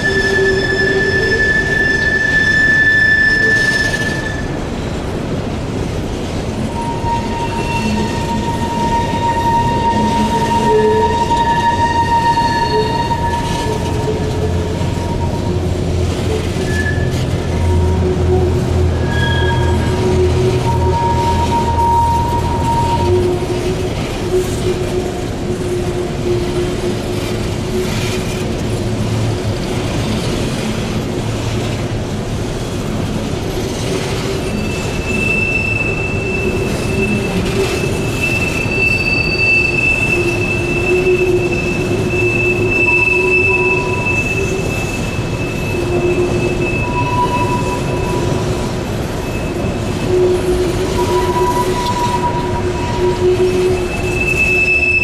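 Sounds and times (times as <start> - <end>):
high-pitched squeal: 0.0 - 4.7, 6.6 - 28.8, 33.6 - 55.0
wheel flange squeal: 0.0 - 4.9, 6.6 - 31.8, 32.9 - 55.0
train wheels rumbling on rail: 0.0 - 55.0.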